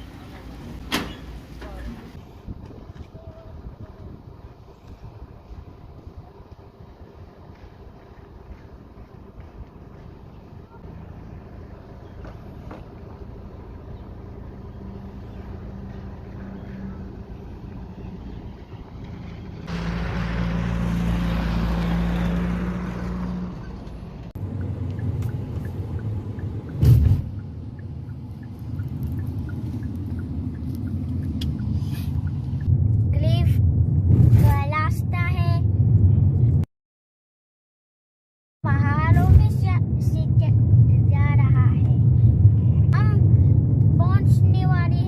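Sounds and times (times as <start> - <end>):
car engine hum: 0.0 - 36.6
road noise: 0.0 - 36.6, 38.7 - 45.0.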